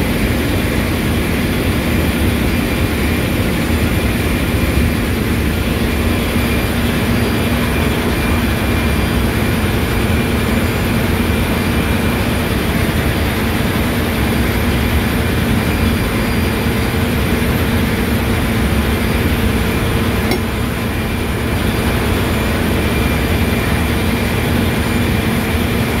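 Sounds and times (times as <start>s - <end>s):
centrifugal separator whine: 0.0s - 26.0s
engine room machinery noise: 0.0s - 26.0s.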